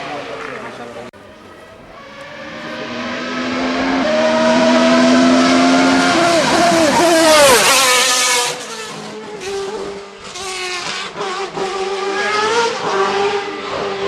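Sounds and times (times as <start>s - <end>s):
race car passing at full throttle: 0.0s - 14.0s.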